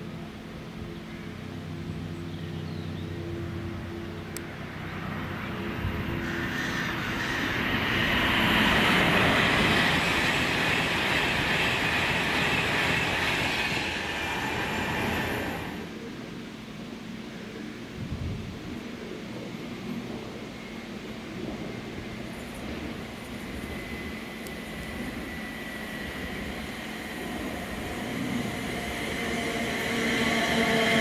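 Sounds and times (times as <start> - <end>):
electric train humming: 0.0 - 31.0
train wheels rushing on rail: 3.3 - 16.1, 18.0 - 31.0.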